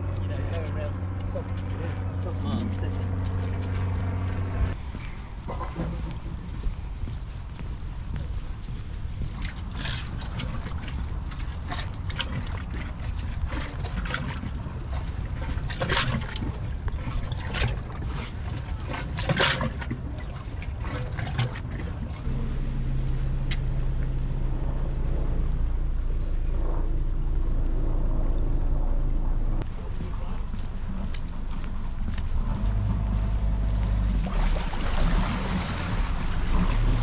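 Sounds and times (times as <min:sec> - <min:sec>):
water lapping around boats: 0:00.0 - 0:29.0, 0:29.6 - 0:37.0
low rumble: 0:00.0 - 0:37.0
steady low hum: 0:00.0 - 0:37.0.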